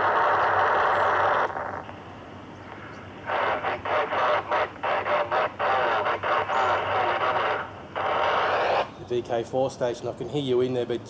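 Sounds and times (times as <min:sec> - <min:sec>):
noisy radio signal cutting in and out: 0:00.0 - 0:09.1
radio static hiss: 0:00.0 - 0:11.0.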